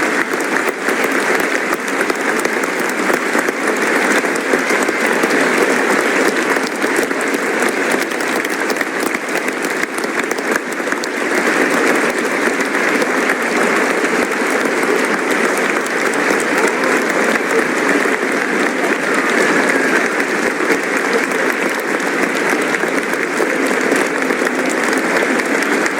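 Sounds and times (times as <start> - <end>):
audience applauding: 0.0 - 25.9.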